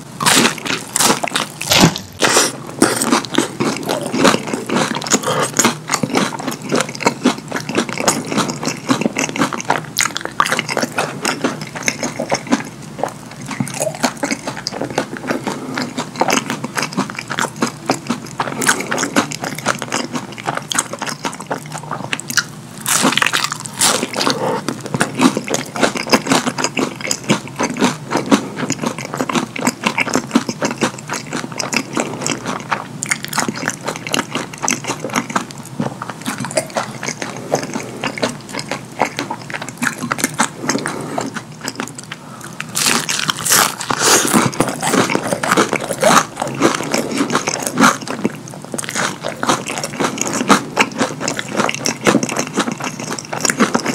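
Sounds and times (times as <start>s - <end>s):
chewing with mouth clicks: 0.2s - 53.9s.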